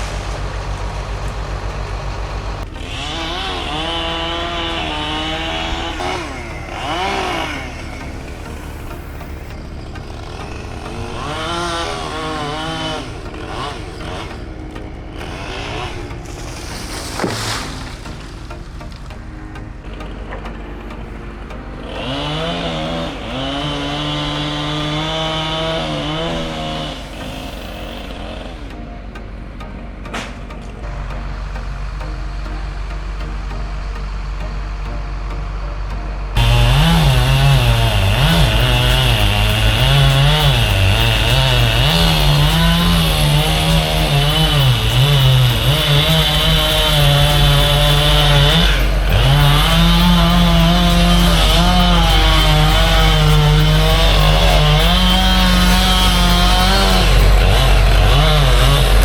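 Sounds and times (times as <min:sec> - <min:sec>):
chainsaw revving: 0:00.0 - 0:29.0, 0:35.8 - 0:59.0.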